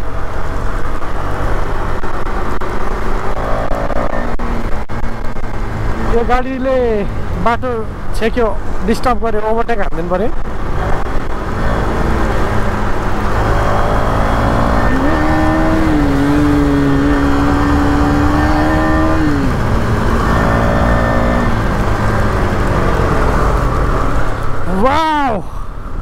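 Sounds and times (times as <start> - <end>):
motorcycle engine accelerating: 0.0 - 8.0, 10.3 - 24.6
wind and road rush: 0.0 - 26.0.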